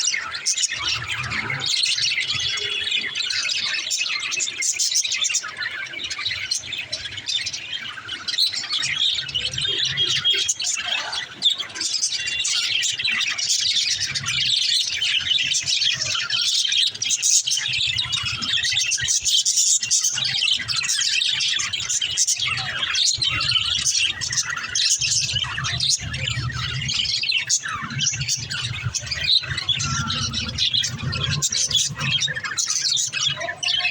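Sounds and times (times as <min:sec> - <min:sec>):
budgerigars chirping: 0:00.0 - 0:33.9.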